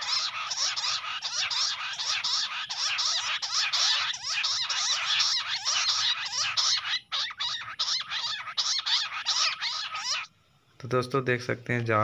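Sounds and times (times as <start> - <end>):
quail chorus of sweeping notes: 0.0 - 10.3.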